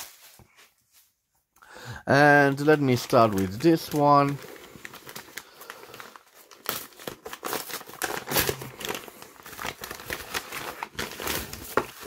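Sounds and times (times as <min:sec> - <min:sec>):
paper envelope crinkling: 0:02.2 - 0:12.0.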